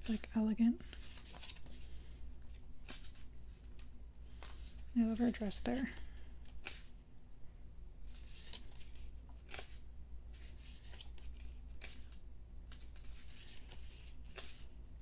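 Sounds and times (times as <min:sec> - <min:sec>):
book pages turning: 0:00.0 - 0:07.0, 0:08.0 - 0:14.8.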